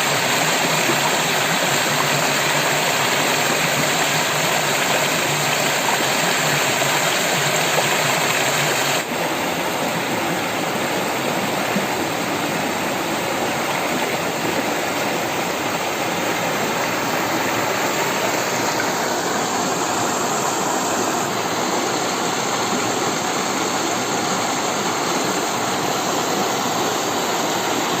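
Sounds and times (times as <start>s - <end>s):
water stream rushing: 0.0s - 28.0s.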